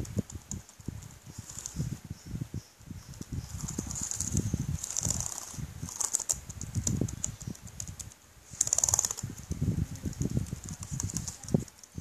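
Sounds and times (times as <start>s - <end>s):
keyboard keys clicking: 0.0s - 1.8s, 3.1s - 12.0s.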